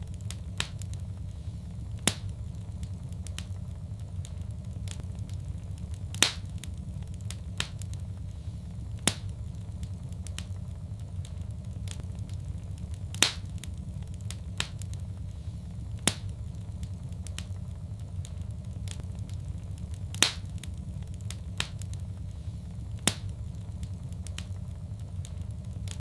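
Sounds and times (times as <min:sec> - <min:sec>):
fire pops and snaps: 0:00.0 - 0:26.0
wood fire crackling: 0:00.0 - 0:26.0.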